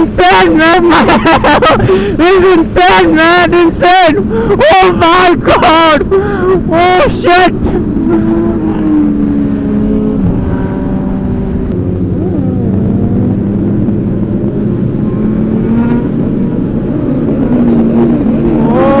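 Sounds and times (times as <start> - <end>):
motorbike engines revving: 0.0 - 19.0.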